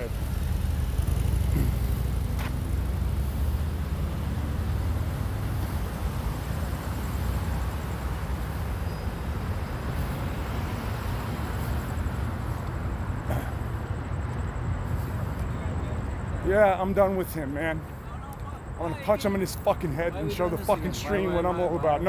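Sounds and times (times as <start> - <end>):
low rumbling outdoor noise: 0.0 - 22.0.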